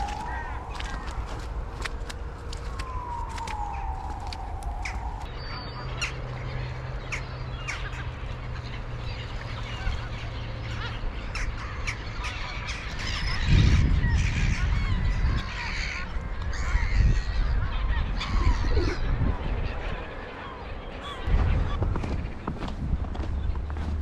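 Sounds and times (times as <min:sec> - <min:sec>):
waterbirds calling: 0:00.0 - 0:24.0.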